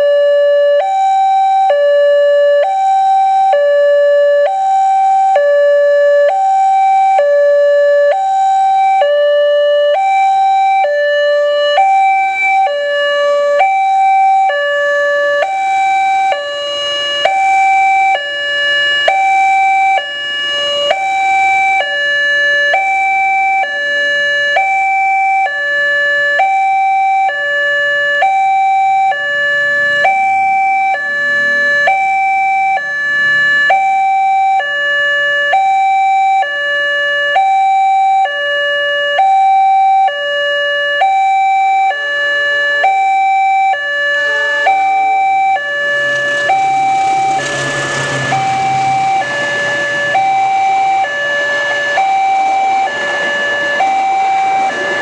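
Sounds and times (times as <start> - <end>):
two-tone crossing alarm: 0.0 - 55.0.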